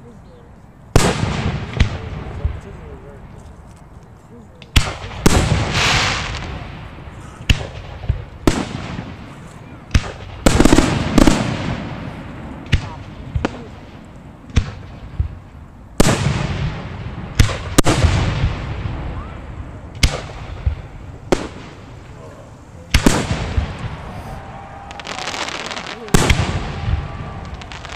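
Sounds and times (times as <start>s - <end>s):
fireworks bursting: 0.9s - 3.3s, 4.6s - 27.9s.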